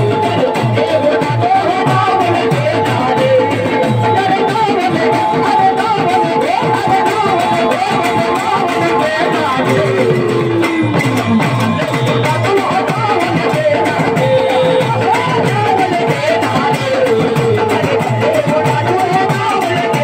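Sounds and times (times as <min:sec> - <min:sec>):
live folk music: 0:00.0 - 0:20.0
rhythmic beat: 0:00.0 - 0:20.0.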